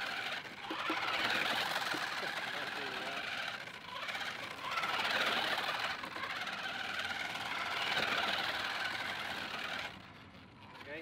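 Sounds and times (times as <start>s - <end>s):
toy car drivetrain whine: 0.0s - 11.0s
toy car tyres skidding on tarmac: 0.0s - 11.0s.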